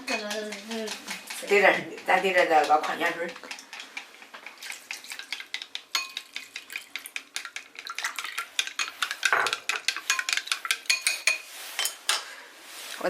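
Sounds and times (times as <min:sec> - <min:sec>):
utensil clicking against bowl: 0:00.2 - 0:11.1.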